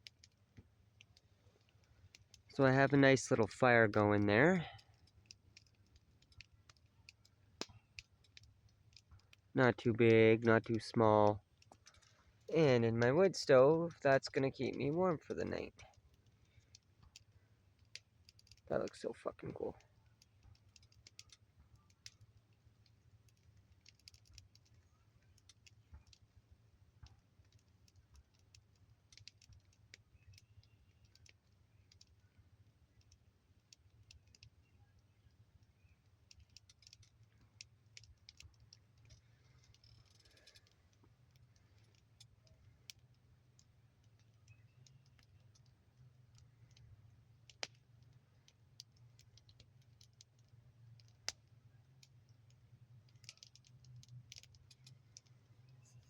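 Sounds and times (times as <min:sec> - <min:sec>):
burning wood crackling: 0:00.0 - 0:56.0.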